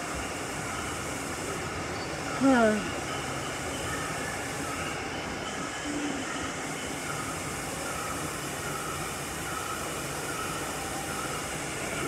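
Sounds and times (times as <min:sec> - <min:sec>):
steady rushing background noise: 0:00.0 - 0:12.0.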